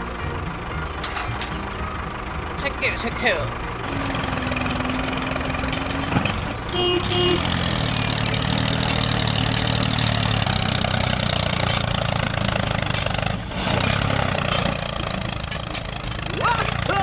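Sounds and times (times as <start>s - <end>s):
tractor engine humming: 0.0s - 17.0s.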